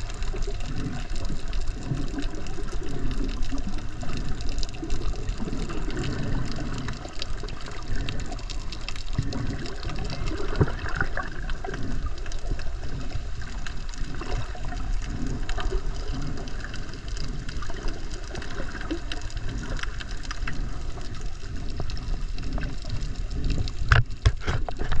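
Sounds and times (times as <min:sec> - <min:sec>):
muffled underwater water rush: 0:00.0 - 0:25.0.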